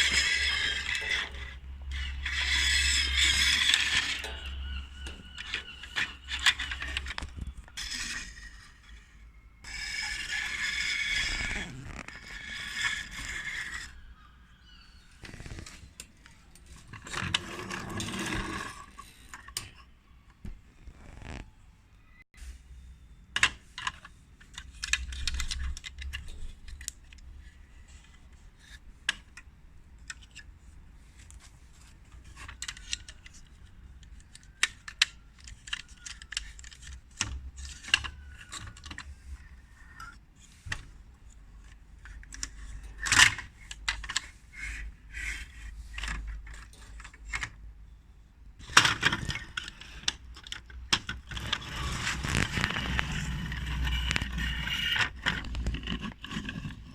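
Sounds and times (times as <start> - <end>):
plastic toy parts clicking and rattling: 0.0 - 14.1, 23.4 - 47.6, 48.6 - 56.9.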